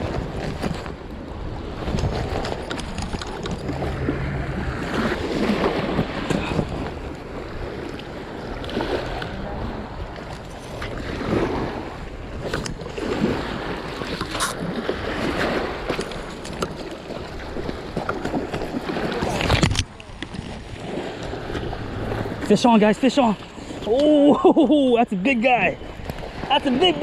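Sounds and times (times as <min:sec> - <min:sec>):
wind buffeting microphone: 0:00.0 - 0:24.0
waves washing on rocky shore: 0:00.0 - 0:24.3, 0:25.3 - 0:27.0.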